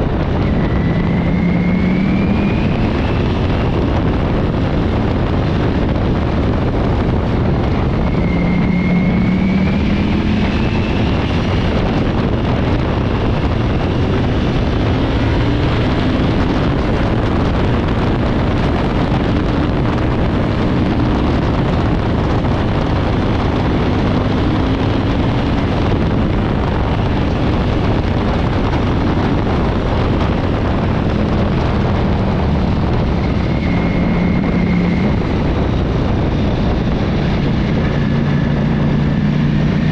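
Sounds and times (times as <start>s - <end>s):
motorcycle engine: 0.0s - 39.9s
wind rush over microphone: 0.0s - 39.9s.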